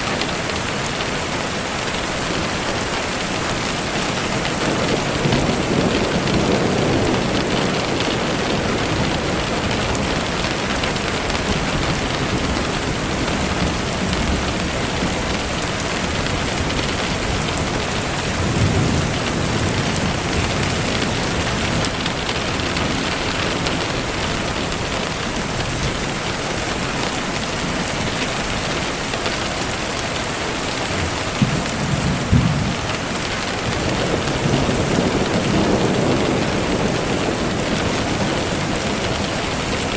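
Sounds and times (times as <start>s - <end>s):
steady rain hiss: 0.0s - 39.9s
distant thunder rumbles: 3.6s - 26.4s, 30.2s - 39.9s.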